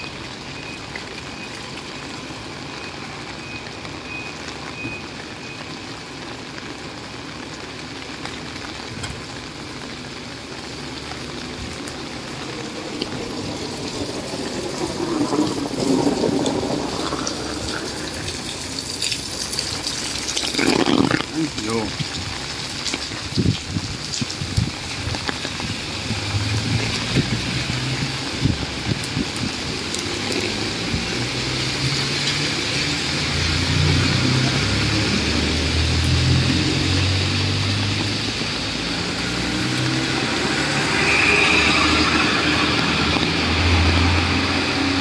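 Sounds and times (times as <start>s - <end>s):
rain on a wet street: 0.0s - 45.0s.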